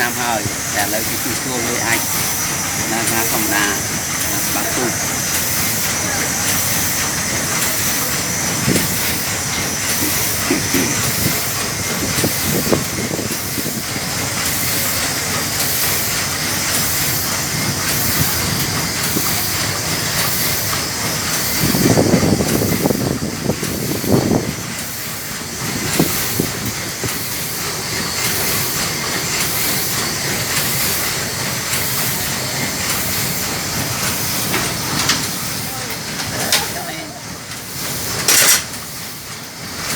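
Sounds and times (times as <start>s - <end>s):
steam engine hissing and pulsing: 0.0s - 39.9s.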